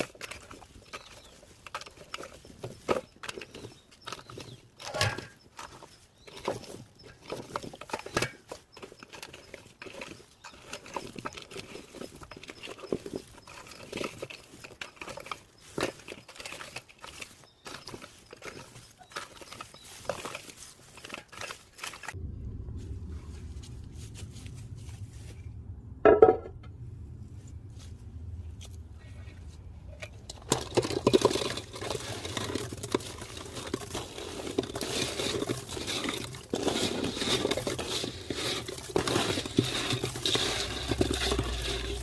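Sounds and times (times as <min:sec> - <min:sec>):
leaves and branches rustling: 0:00.0 - 0:26.0, 0:26.8 - 0:42.0.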